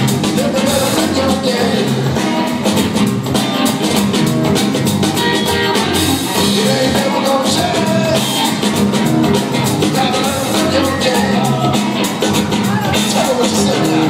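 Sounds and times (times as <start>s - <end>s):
loud music with singing: 0.0s - 14.0s.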